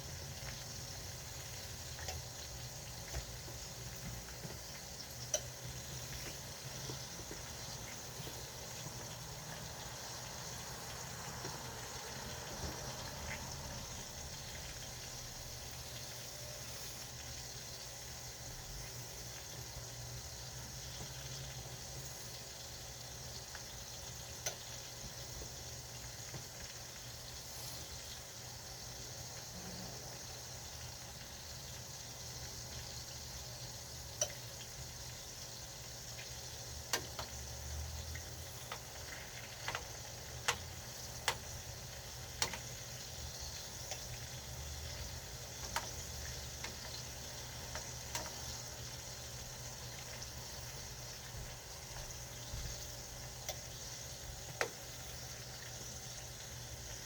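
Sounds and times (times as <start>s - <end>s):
food hissing on stove: 0.0s - 57.0s.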